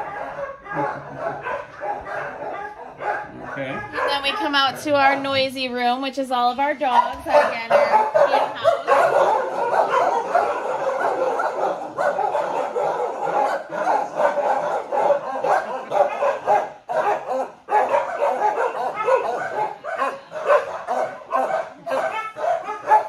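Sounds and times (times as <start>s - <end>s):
dogs barking: 0.0s - 5.4s, 6.8s - 23.0s.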